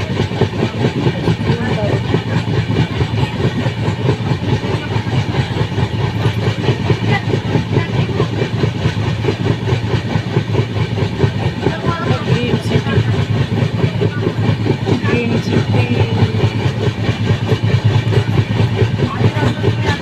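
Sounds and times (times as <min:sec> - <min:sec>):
train rumbling on rails: 0:00.0 - 0:20.0
wheels clattering over track: 0:00.0 - 0:20.0.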